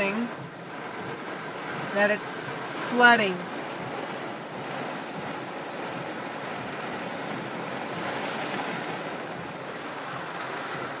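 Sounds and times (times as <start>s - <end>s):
rain pelting window glass: 0.0s - 11.0s.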